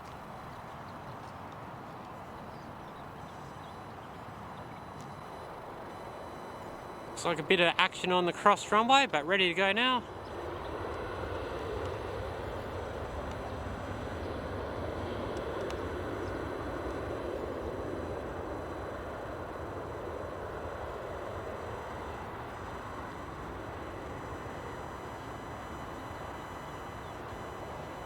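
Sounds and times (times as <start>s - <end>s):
distant jet engines rushing: 0.0s - 28.0s.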